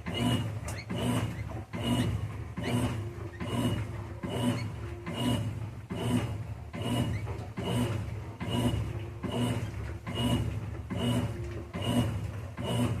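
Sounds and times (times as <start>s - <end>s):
washing machine motor whir: 0.0s - 13.0s.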